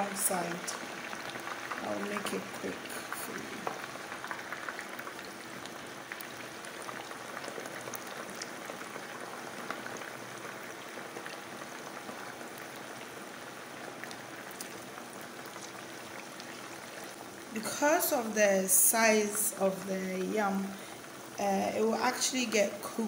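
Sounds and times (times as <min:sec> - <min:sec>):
chips deep-frying in oil: 0:00.0 - 0:23.0.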